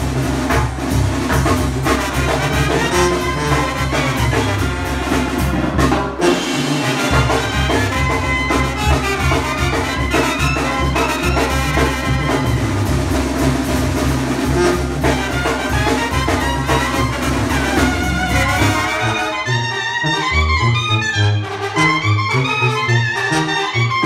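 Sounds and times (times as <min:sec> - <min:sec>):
drums: 0:00.0 - 0:19.5
brass band playing: 0:00.0 - 0:24.0
sousaphone bass line: 0:00.4 - 0:05.8, 0:06.5 - 0:24.0.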